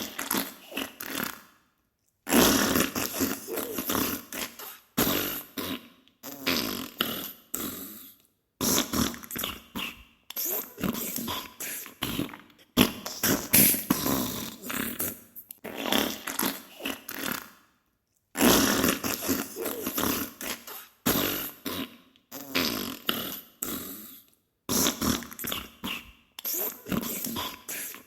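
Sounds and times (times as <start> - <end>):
wet sputtering farts: 2.3 - 8.0, 8.6 - 11.4, 12.0 - 17.6, 18.4 - 23.8, 24.7 - 27.8.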